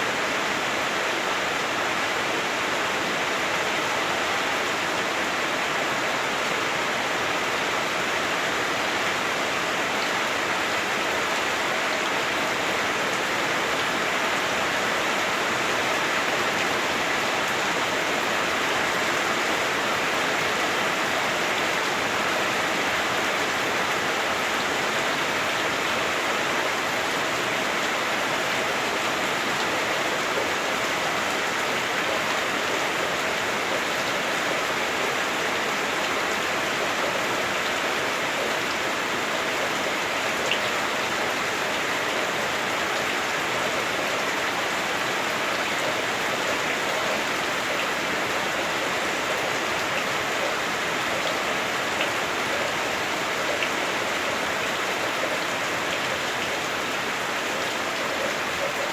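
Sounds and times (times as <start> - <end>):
heavy rain drumming on roof: 0.1 - 58.9.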